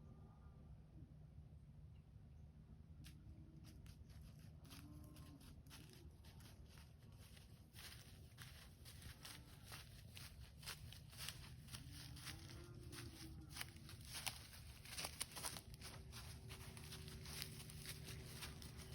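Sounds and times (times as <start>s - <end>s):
low steady hum: 0.0s - 18.9s
footsteps in dry leaves: 3.6s - 18.9s.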